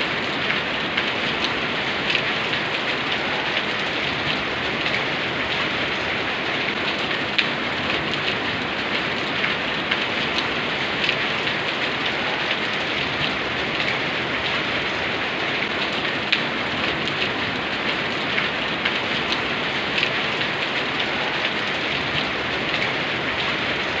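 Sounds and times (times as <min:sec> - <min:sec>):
rain drops ticking on a surface: 0:00.0 - 0:24.0.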